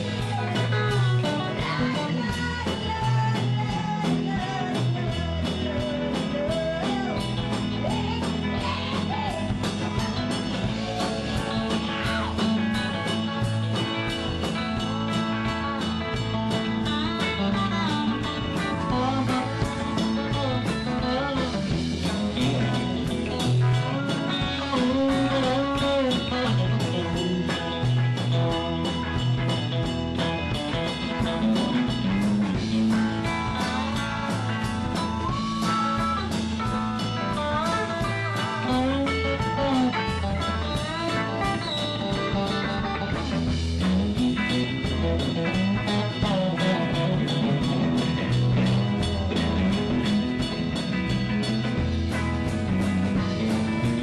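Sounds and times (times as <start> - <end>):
drum kit beat: 0.0 - 54.0
electric guitar: 0.0 - 54.0.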